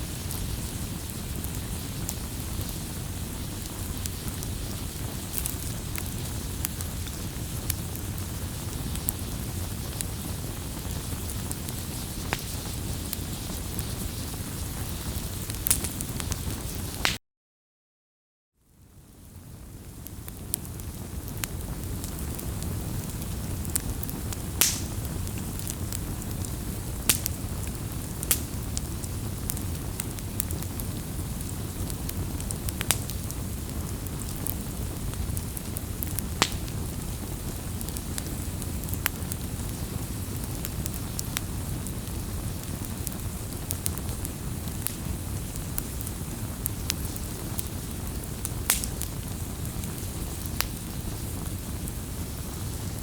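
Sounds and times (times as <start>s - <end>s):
campfire flames rushing: 0.0s - 17.1s, 19.0s - 53.0s
fire crackles and pops: 0.0s - 17.2s, 18.7s - 53.0s.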